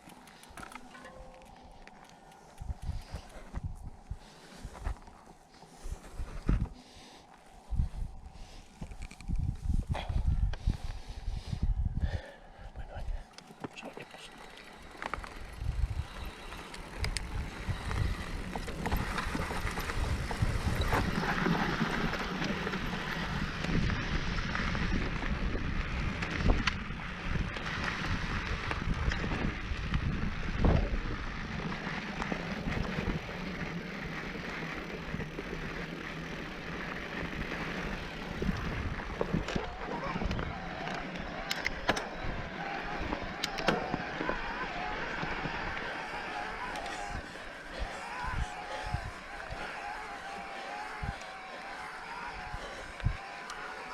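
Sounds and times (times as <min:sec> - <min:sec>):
bike clicks and rattles: 0:00.0 - 0:12.3, 0:13.0 - 0:53.9
bike tyres on dirt: 0:00.0 - 0:53.9
wind buffeting microphone: 0:02.4 - 0:05.1, 0:05.8 - 0:13.2, 0:14.8 - 0:53.9.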